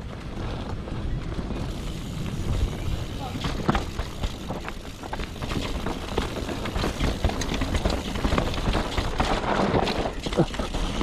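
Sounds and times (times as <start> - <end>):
bike chain and frame rattling: 0.0 - 11.0
tyres on dirt and leaves: 0.0 - 11.0
wind rumbling on microphone: 0.0 - 11.0.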